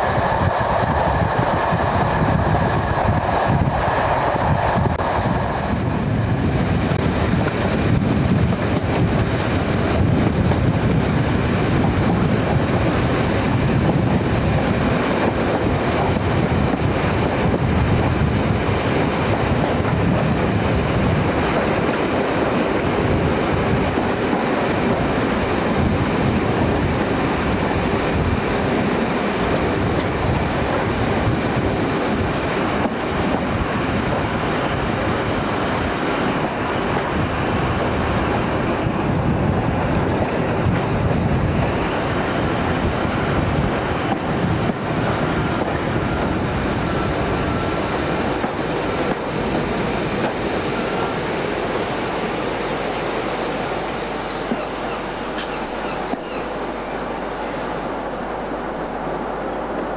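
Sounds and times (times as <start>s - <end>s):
wind on microphone: 0.0s - 56.6s
train wheels on rails: 0.0s - 59.9s.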